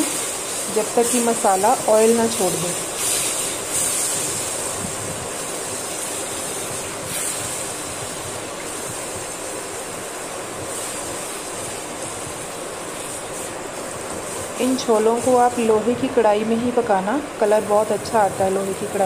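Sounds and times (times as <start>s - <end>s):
masala sizzling in a pan: 0.0s - 19.0s.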